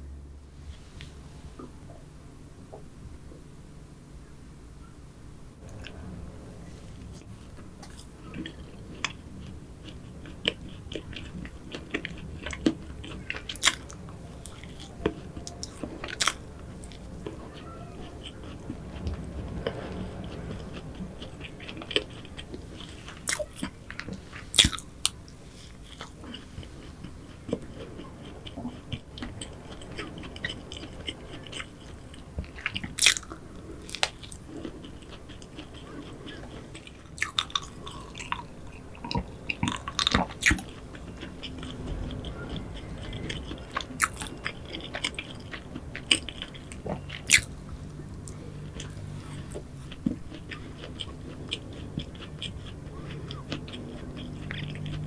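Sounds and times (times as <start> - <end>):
chewing flaky pastry: 5.6 - 55.0
crackly crunch of crust: 7.0 - 55.0.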